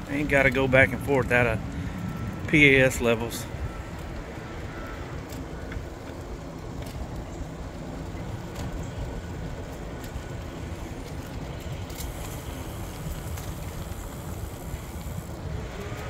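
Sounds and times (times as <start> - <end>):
bike tyres rolling: 0.0 - 16.0.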